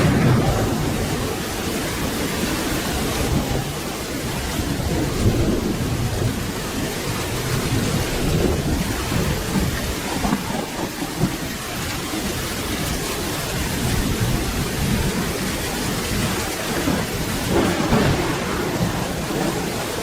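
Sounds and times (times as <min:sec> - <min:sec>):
low thunder rumble: 0:00.0 - 0:20.0
steady rain: 0:00.0 - 0:20.0.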